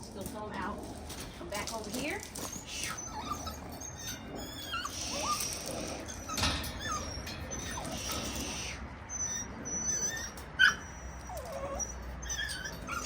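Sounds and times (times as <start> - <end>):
puppies whining and yipping: 0.6 - 13.0.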